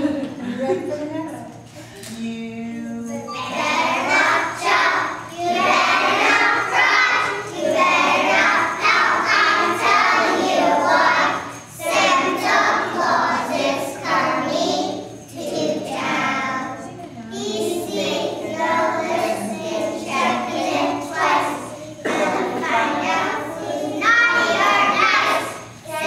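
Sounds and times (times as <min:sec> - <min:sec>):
children singing: 0:03.0 - 0:26.0.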